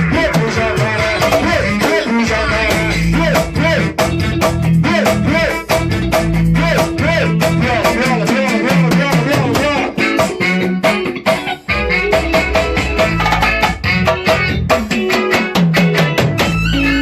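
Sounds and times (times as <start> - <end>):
busy percussion: 0.0 - 17.0
held bass notes: 0.0 - 17.0
melodic lead line: 0.0 - 17.0.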